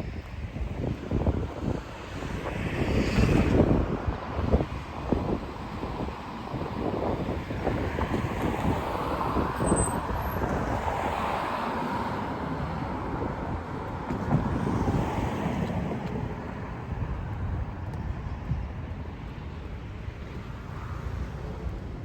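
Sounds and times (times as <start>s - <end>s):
traffic rumble: 0.0s - 22.0s
wind buffeting microphone: 0.0s - 22.0s.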